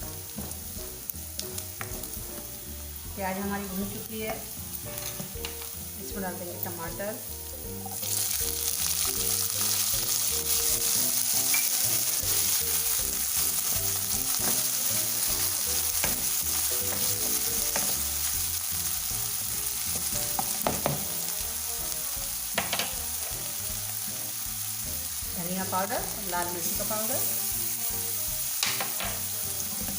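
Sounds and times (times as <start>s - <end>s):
tomato sizzling in hot fat: 0.0s - 29.9s.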